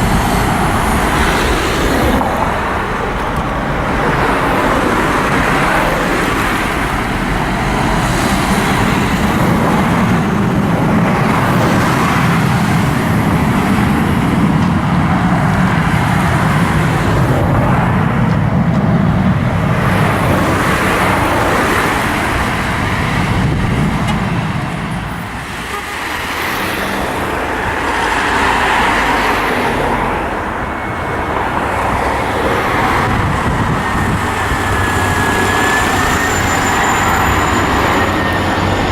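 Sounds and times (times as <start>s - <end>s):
loud engine rumble: 0.0s - 38.9s.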